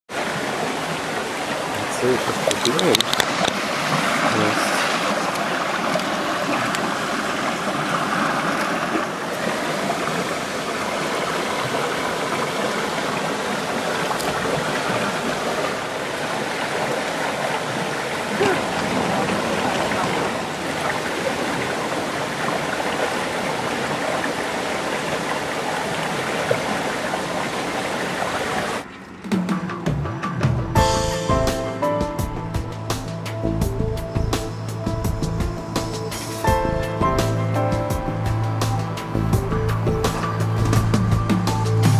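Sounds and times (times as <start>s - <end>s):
river water flowing: 0.1s - 41.9s.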